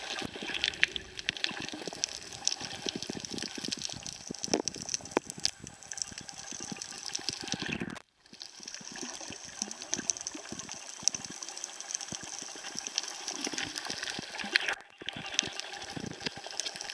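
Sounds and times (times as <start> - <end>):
water swirling underwater: 0.0 - 16.9
small crackling clicks: 0.1 - 16.9.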